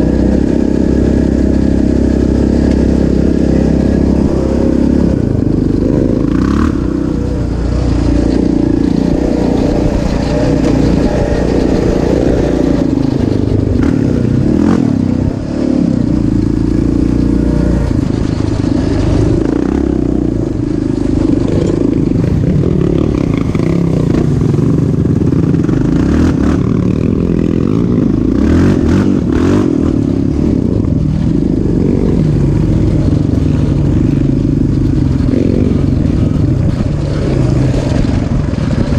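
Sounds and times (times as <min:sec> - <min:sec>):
off-road engine revving: 0:00.0 - 0:38.9.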